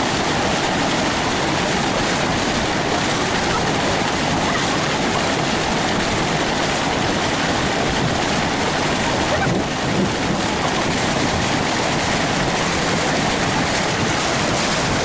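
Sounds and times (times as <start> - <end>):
rushing wind and water: 0.0 - 15.0.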